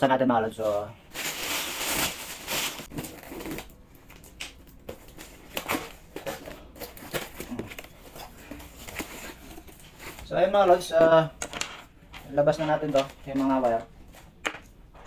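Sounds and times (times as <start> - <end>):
plastic bag rustling: 0.6 - 13.8.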